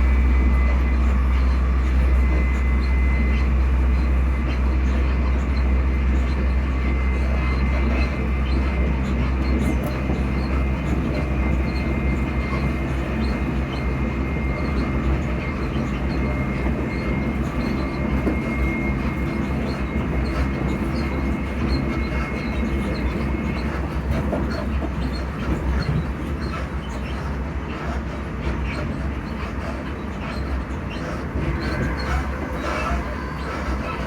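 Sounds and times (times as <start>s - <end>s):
low rumble of moving train: 0.0s - 34.0s
traction motors humming: 0.0s - 34.0s.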